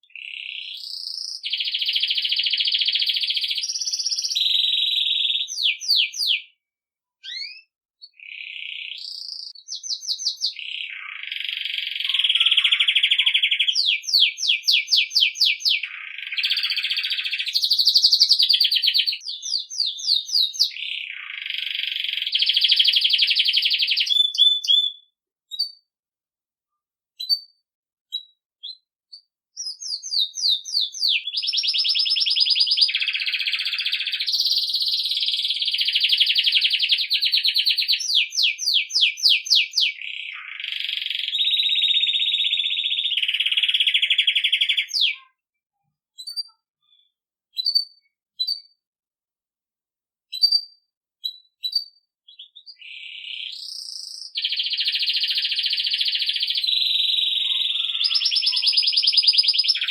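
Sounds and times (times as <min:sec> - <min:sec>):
canary singing: 0:00.0 - 0:06.6, 0:07.2 - 0:25.8, 0:27.2 - 0:27.5, 0:28.1 - 0:45.4, 0:46.2 - 0:48.8, 0:50.3 - 0:59.9.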